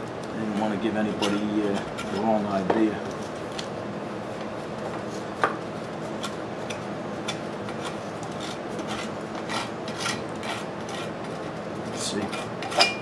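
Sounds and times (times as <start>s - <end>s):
rasp scraping body filler: 0.8s - 2.6s, 4.2s - 12.9s.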